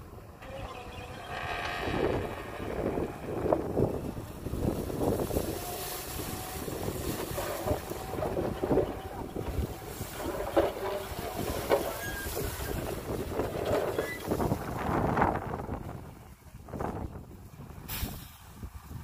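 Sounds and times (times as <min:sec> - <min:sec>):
diesel engine rumbling: 0:00.0 - 0:19.0
wind buffeting microphone: 0:00.0 - 0:19.0.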